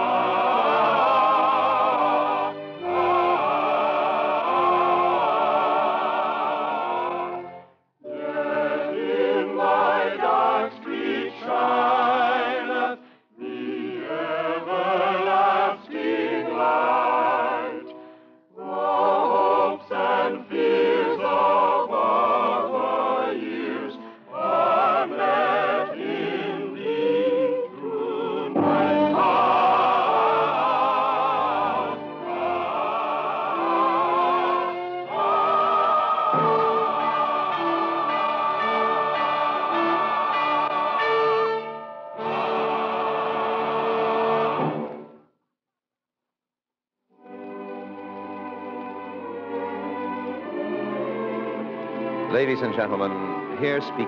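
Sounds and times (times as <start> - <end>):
singing voices with vibrato: 0.0 - 7.4, 8.1 - 18.0, 18.6 - 44.7.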